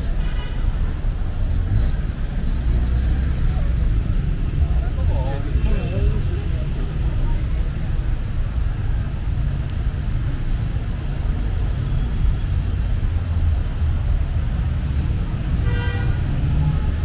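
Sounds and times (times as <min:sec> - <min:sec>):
passing cars and buses rumbling: 0:00.0 - 0:17.0.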